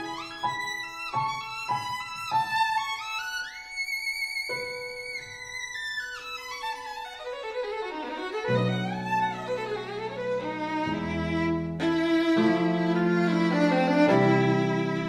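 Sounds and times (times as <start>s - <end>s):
solo melody of sliding notes: 0.0s - 15.0s.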